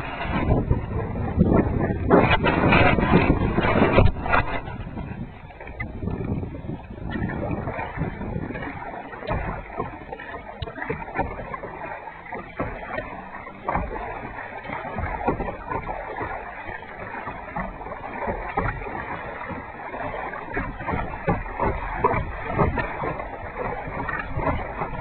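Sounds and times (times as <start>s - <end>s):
paddle splashing in water: 0.0s - 25.0s.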